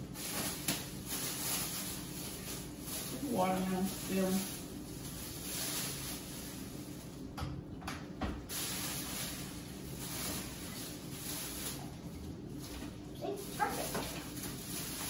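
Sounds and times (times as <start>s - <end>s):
plastic bags rustling: 0.0s - 7.4s, 8.4s - 15.0s.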